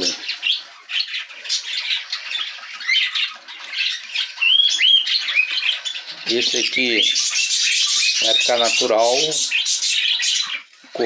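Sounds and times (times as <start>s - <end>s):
budgerigar chicks squawking: 0.0s - 11.0s.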